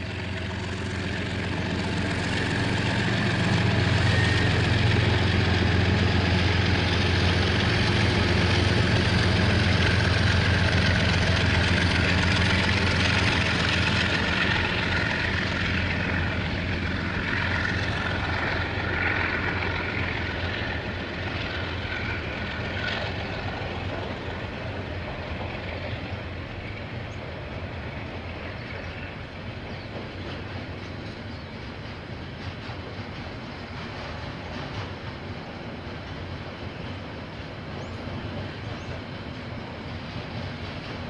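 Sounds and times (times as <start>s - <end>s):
locomotive engine drone: 0.0s - 41.0s
train rolling on rails: 0.0s - 41.0s.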